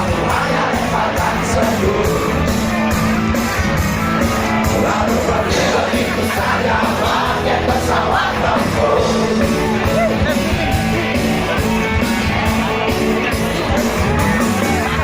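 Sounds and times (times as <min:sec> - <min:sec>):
people singing: 0:00.0 - 0:03.2, 0:04.2 - 0:15.0
live rock band playing: 0:00.0 - 0:15.0.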